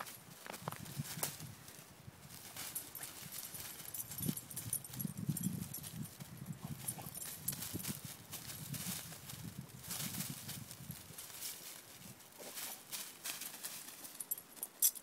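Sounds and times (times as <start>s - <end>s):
dry leaves rustling and crackling: 0.0s - 14.8s.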